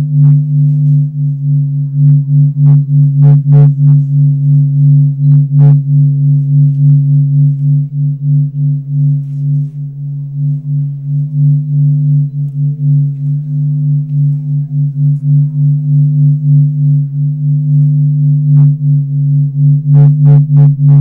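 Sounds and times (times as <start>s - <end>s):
low droning music: 0.0s - 21.0s.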